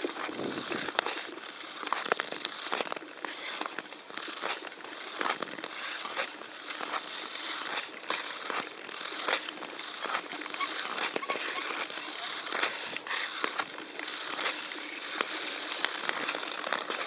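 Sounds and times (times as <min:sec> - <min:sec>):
ice crackling: 0:00.0 - 0:17.0
ice skate blades scraping ice: 0:00.0 - 0:17.0.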